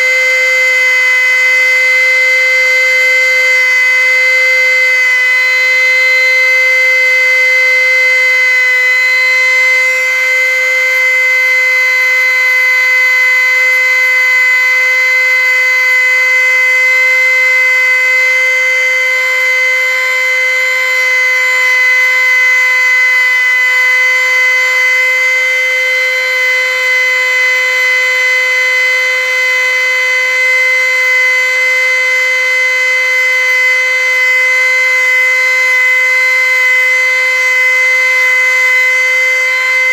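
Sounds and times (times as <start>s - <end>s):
electric rotary tool whining: 0.0s - 39.9s.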